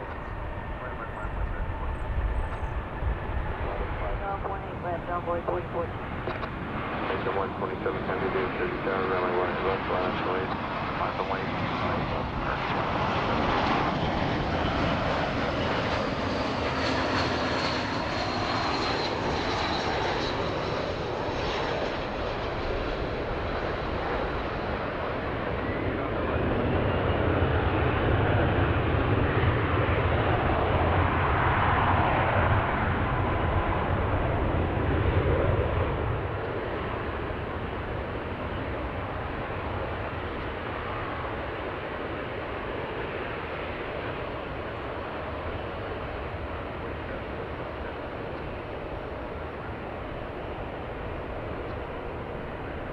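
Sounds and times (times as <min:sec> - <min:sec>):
airplane engines passing: 0:00.0 - 0:52.9.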